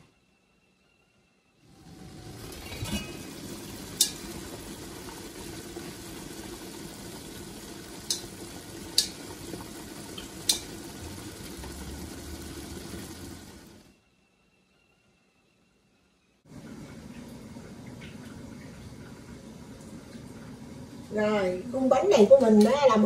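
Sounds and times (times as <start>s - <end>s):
water boiling: 1.6s - 14.0s, 16.5s - 23.0s.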